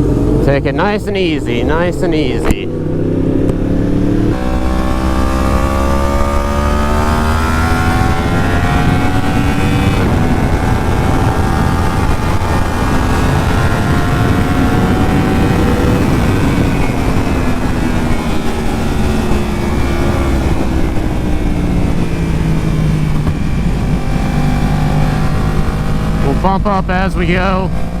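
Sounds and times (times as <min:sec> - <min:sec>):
motorcycle engine accelerating: 0:00.0 - 0:28.0
steady rushing noise: 0:00.0 - 0:28.0.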